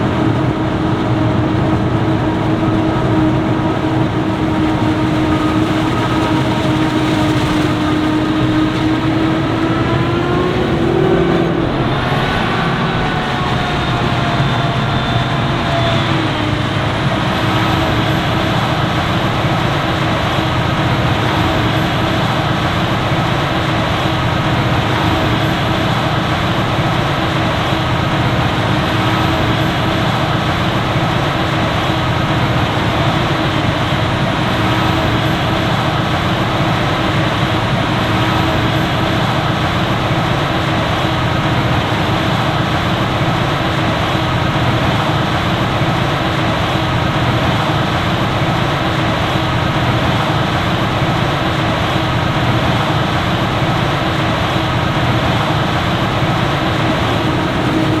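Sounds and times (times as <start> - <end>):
heavy diesel farm machinery drone: 0.0 - 58.0.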